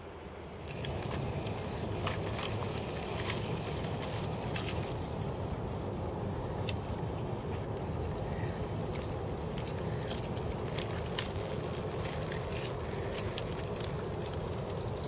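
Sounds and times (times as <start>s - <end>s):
low ice rumble: 0.0s - 15.0s.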